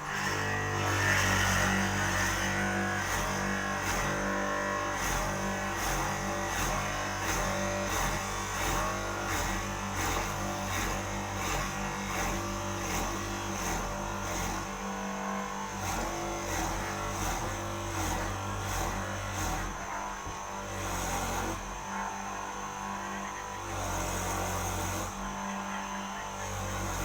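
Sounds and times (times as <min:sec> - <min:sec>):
electric motor humming: 0:00.0 - 0:27.0.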